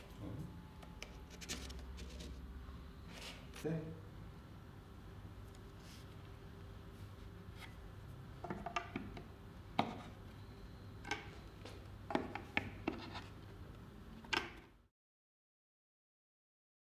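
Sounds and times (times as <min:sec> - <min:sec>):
low room hum: 0:00.0 - 0:14.9.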